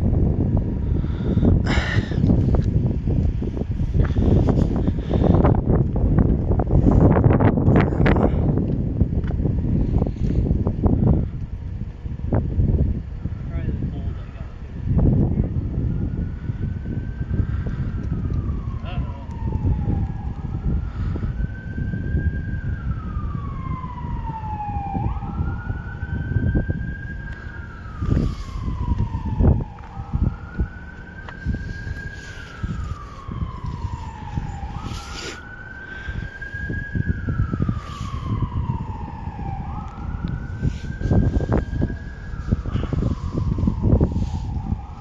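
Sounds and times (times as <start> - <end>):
siren wailing: 0.0 - 8.6, 13.3 - 45.0.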